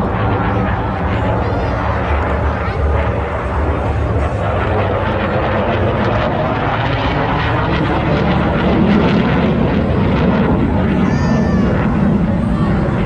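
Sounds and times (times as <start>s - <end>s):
airplane engine flying past: 0.0s - 13.0s.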